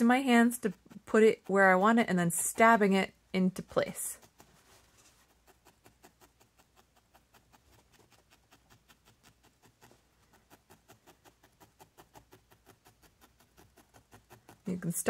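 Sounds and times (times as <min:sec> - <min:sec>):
felting needle stabbing wool: 0:00.0 - 0:15.0.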